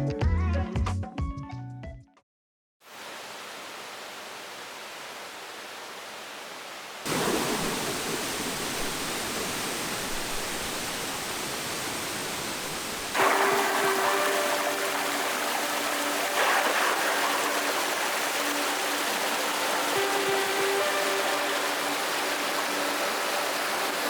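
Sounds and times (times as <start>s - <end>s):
rushing water of stream: 2.9s - 24.0s.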